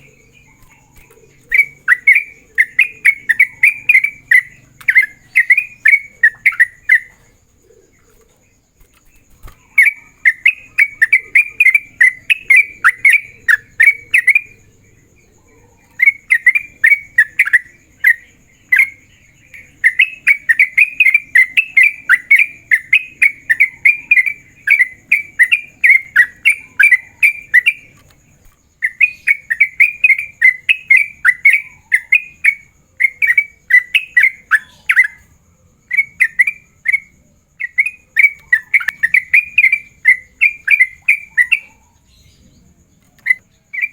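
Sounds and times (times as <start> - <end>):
bird chattering song: 0.0 - 35.3, 35.9 - 43.9.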